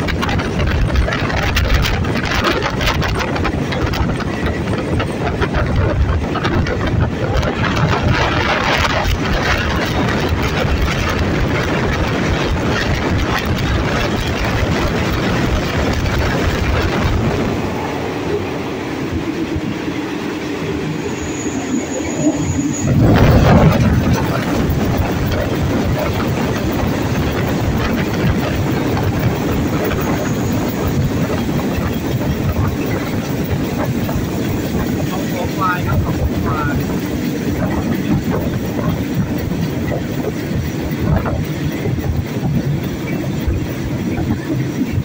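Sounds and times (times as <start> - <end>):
diesel locomotive running: 0.0 - 45.0
train rumbling on track: 0.0 - 45.0.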